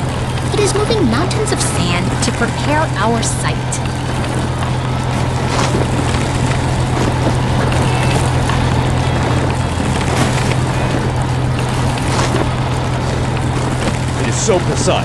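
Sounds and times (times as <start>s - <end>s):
continuous rushing noise: 0.0s - 15.0s
wheel loader engine drone: 0.0s - 15.0s.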